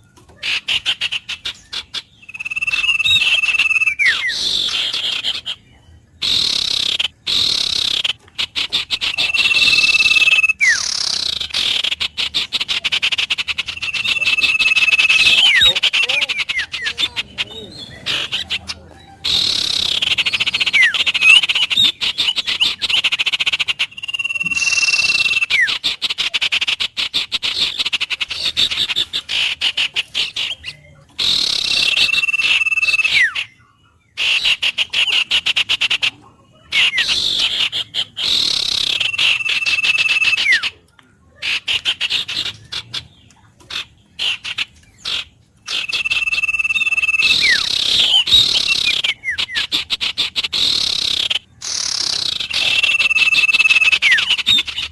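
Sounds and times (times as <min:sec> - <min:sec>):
rapid trilling croaking chorus: 0:00.0 - 0:54.9.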